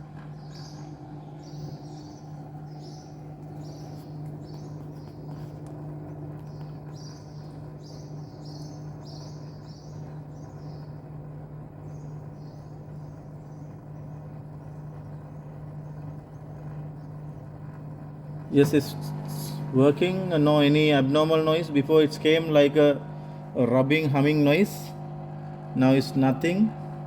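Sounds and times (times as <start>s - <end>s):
small birds chirping: 0.0s - 25.0s
washing machine humming: 0.0s - 27.0s.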